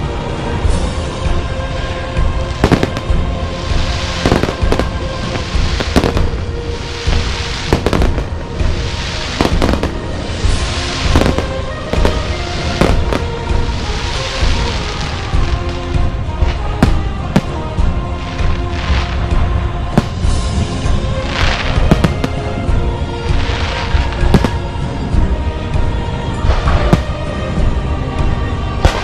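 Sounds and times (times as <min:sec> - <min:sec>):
fireworks crackling hiss: 0:00.0 - 0:29.0
music: 0:00.0 - 0:29.0
fireworks bangs: 0:02.2 - 0:25.3, 0:26.4 - 0:27.5.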